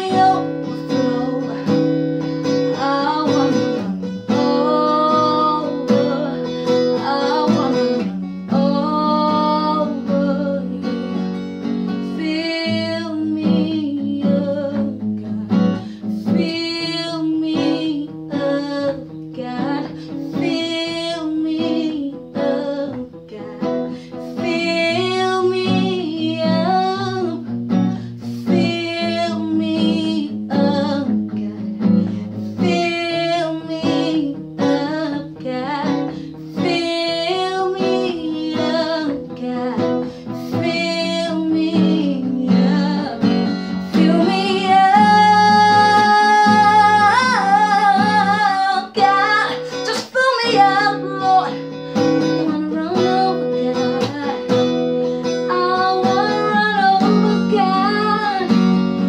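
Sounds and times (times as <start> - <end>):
woman singing gospel: 0.0 - 11.1, 12.1 - 27.4, 28.5 - 31.8, 32.6 - 58.5
acoustic guitar chords: 0.0 - 59.0.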